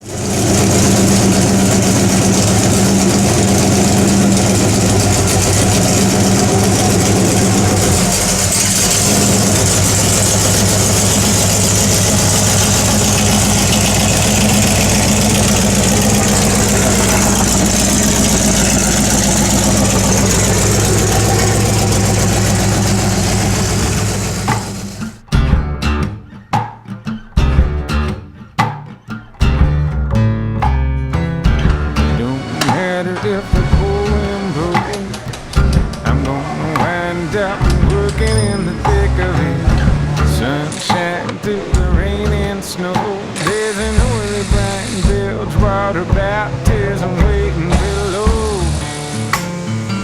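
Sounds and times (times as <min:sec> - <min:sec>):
car engine idling: 0:00.0 - 0:25.2, 0:33.3 - 0:50.0.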